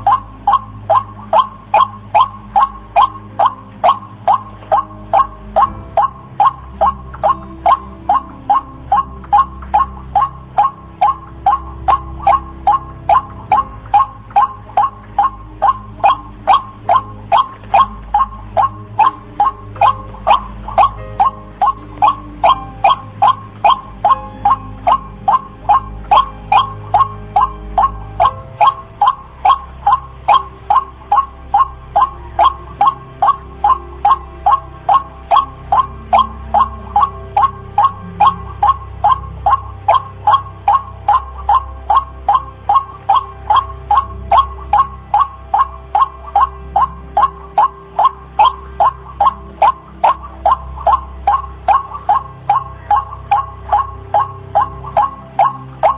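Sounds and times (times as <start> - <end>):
bird calling sharp repeated notes: 0.0 - 55.9
faint steady hum: 0.0 - 55.9.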